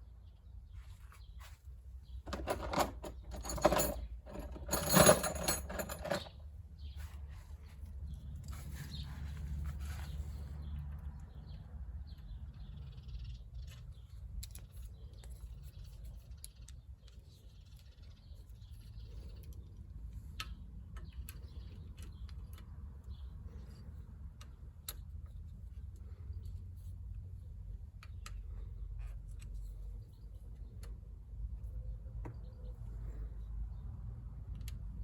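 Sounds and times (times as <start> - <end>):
faint birdsong: 0.0 - 35.0.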